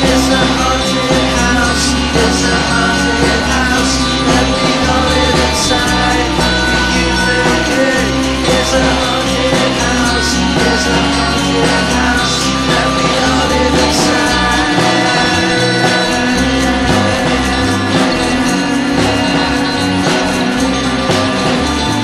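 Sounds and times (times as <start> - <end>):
electronic rock song with vocals: 0.0 - 22.0.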